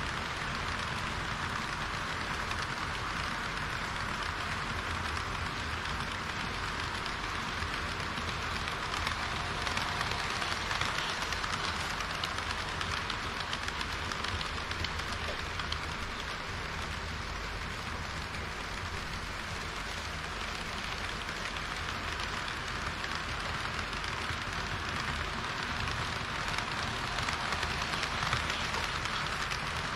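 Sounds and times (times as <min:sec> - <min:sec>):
model train wheels rolling on rails: 0:00.0 - 0:29.9.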